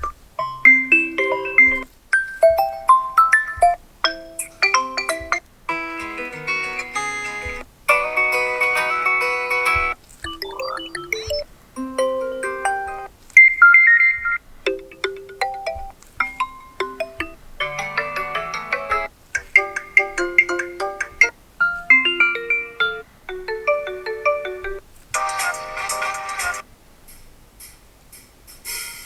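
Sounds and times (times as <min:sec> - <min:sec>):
phone ringtone melodies: 0:00.0 - 0:26.6.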